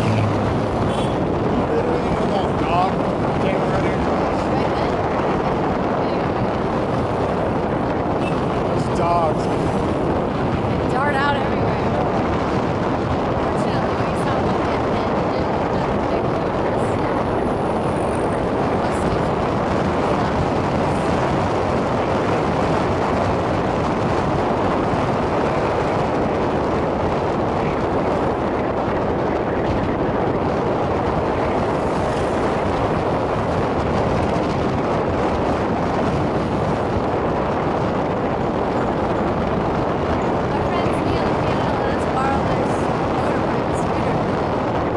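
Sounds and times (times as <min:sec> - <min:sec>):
motorbike engine: 0:00.0 - 0:44.6
road noise: 0:00.0 - 0:44.9
wind rushing over microphone: 0:00.0 - 0:44.9.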